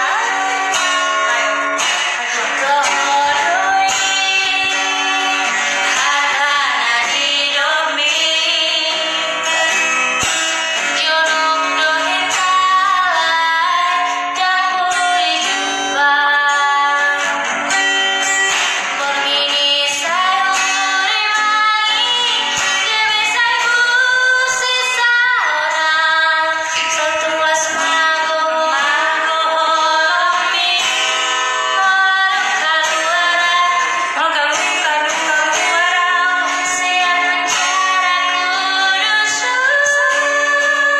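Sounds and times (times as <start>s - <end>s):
acoustic guitar: 0.0s - 40.9s
woman singing: 0.0s - 40.9s.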